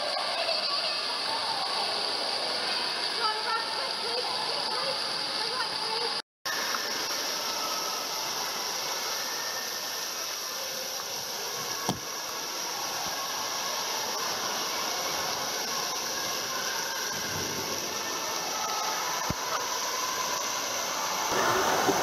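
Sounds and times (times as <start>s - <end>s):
water jets spraying on wet floor: 0.0s - 22.0s.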